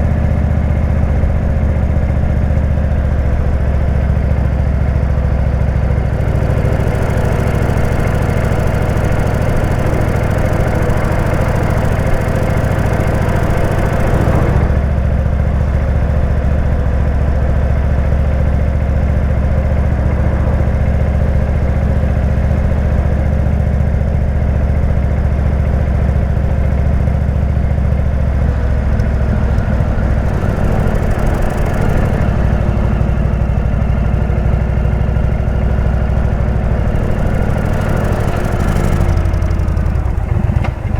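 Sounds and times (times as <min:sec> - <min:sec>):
v-twin motorcycle engine running: 0:00.0 - 0:40.9.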